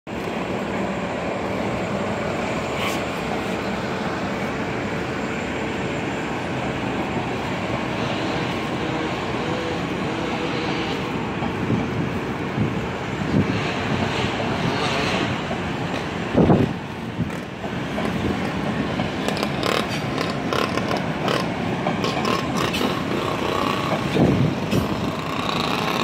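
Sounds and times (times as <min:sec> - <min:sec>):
city street noise: 0:00.1 - 0:26.0
electric train rumbling on tracks: 0:00.1 - 0:26.0.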